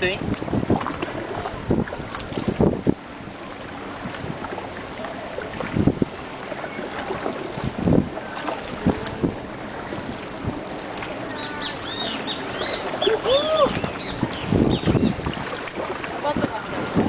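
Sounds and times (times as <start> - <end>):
kayak paddles splashing: 0.0 - 17.0
water and wind wash: 0.0 - 17.0.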